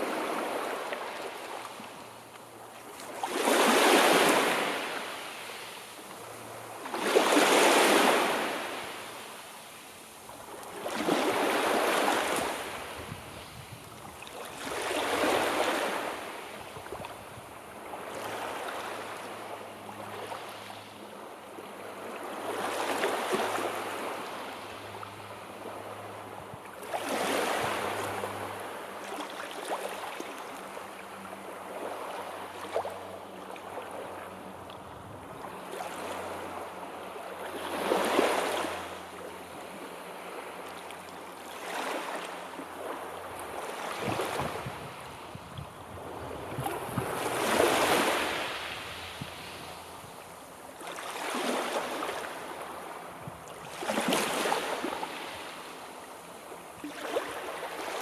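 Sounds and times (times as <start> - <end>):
sea waves breaking: 0.0 - 21.1, 21.8 - 34.6, 35.3 - 58.0.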